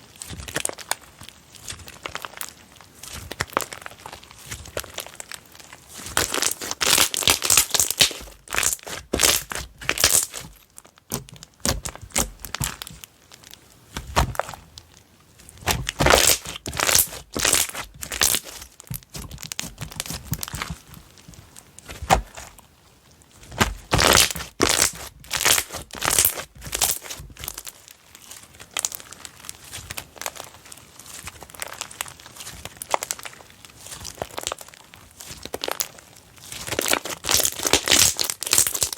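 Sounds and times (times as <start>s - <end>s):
slime crackling and popping: 0.0s - 38.9s.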